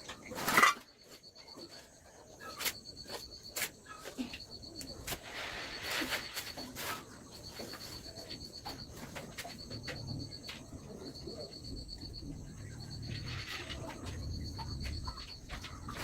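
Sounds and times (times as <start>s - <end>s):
insect trilling: 0.0s - 16.0s.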